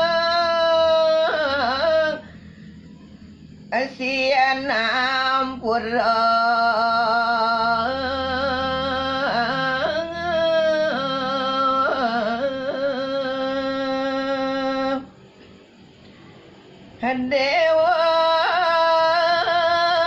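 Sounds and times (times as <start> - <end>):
person singing unaccompanied: 0.0 - 15.2, 17.0 - 20.0.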